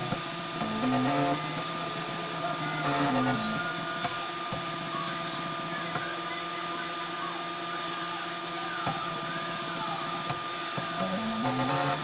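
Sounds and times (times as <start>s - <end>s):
printer motors whining: 0.0s - 12.0s
steady hum and hiss: 0.0s - 12.0s.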